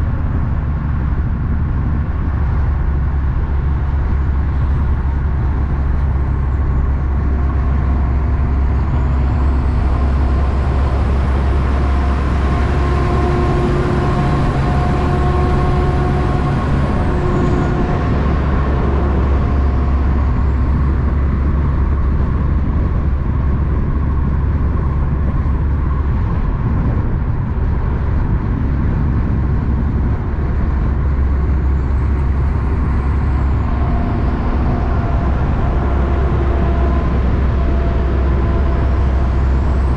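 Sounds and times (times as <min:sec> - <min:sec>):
heavy truck and traffic noise: 0:00.0 - 0:39.9.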